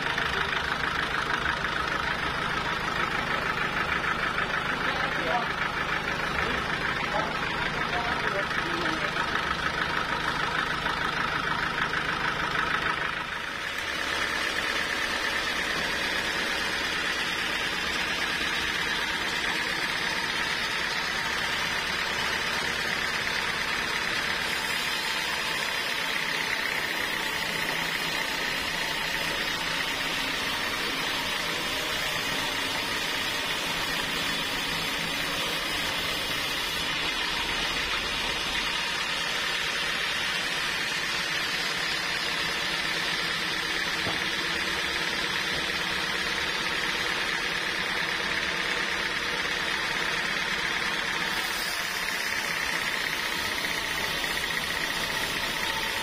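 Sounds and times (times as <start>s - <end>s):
band sawmill running: 0.0s - 56.0s
saw blade whining through log: 0.0s - 56.0s.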